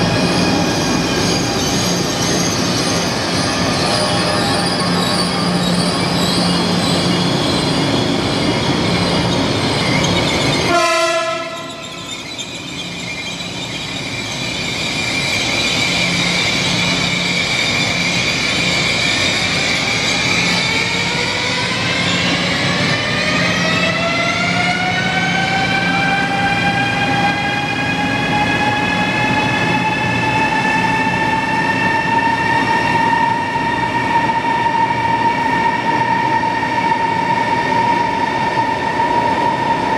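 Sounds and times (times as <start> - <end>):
train rushing past: 0.0 - 39.9.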